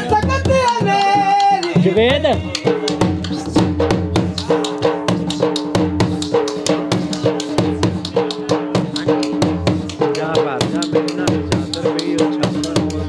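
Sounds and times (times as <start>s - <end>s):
dhol drum beating: 0.0s - 13.0s.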